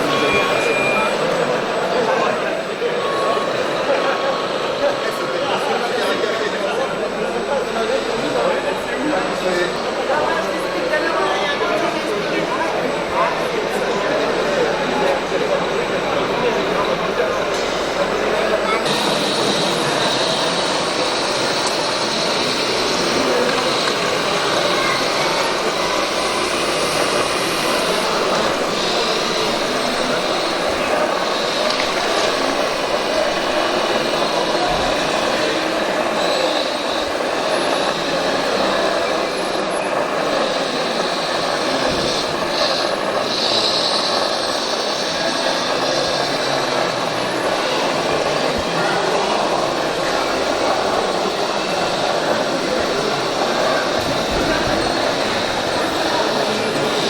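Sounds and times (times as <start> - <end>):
people talking: 0.0 - 57.0
high whine of small electric motors: 5.6 - 57.0.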